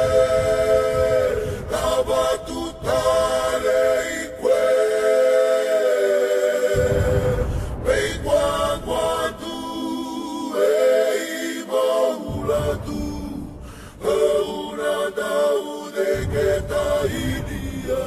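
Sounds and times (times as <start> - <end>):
group singing a cappella: 0.0 - 18.0.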